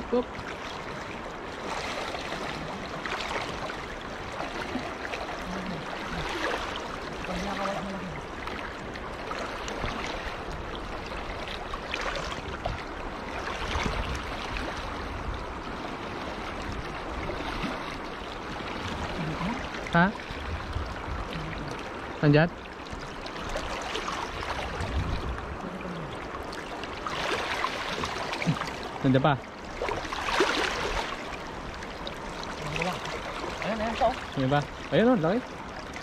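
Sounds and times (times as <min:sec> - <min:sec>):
river water flowing and splashing: 0:00.0 - 0:36.0.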